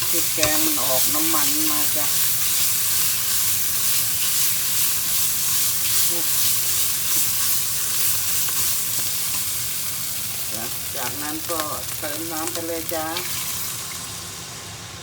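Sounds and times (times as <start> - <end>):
curry paste sizzling in oil: 0.0 - 15.0.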